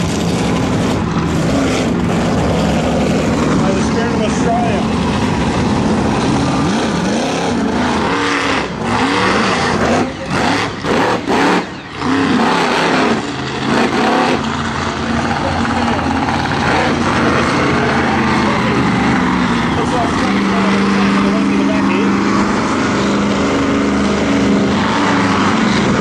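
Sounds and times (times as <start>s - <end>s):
monster truck engine revving: 0.0s - 26.0s.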